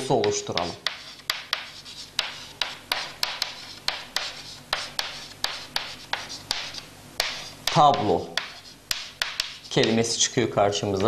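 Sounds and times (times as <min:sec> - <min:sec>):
chalk tapping on chalkboard: 0:00.0 - 0:10.1
faint chalk scraping: 0:00.0 - 0:10.2.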